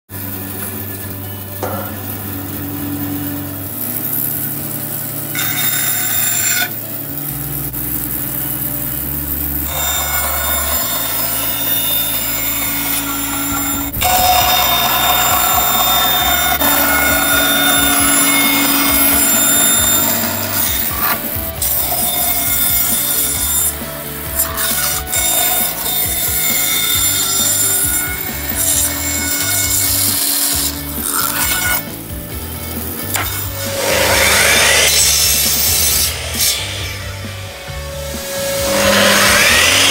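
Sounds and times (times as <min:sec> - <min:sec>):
background music: 0:00.1 - 0:39.9
bandsaw cutting wood: 0:00.2 - 0:39.9.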